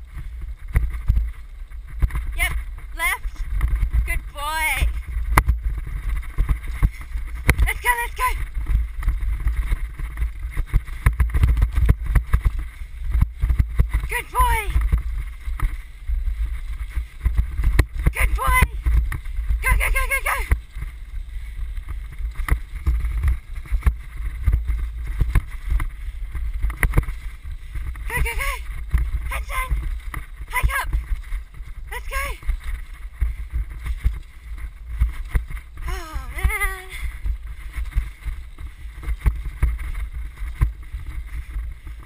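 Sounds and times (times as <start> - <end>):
wind rumbling on microphone: 0.0 - 42.0.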